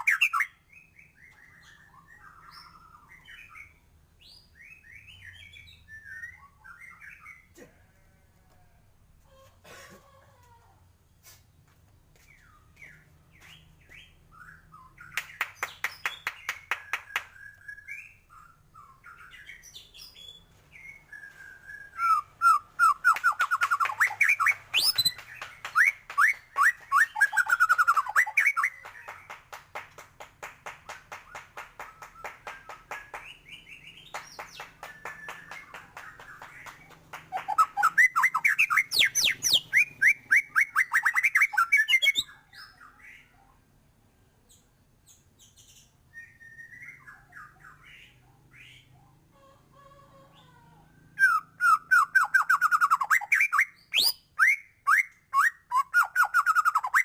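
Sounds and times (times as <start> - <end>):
songbird singing: 0.0 - 8.1, 11.2 - 29.8, 30.4 - 49.3, 50.3 - 57.0.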